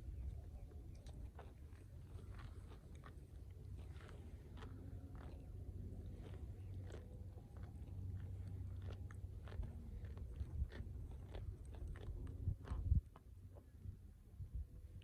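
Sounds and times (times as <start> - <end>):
cow chewing with crunches: 0.0 - 13.8
low steady rumble: 0.0 - 15.0.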